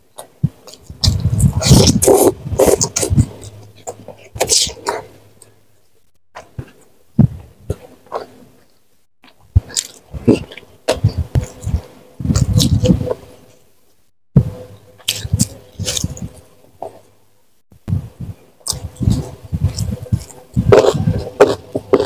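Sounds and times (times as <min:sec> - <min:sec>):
person chewing food: 0:00.1 - 0:13.4, 0:15.0 - 0:17.1, 0:17.9 - 0:22.0.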